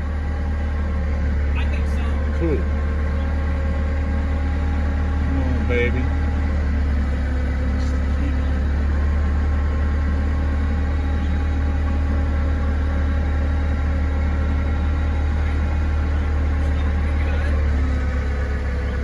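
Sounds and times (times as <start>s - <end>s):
forklift engine droning: 0.0s - 19.0s.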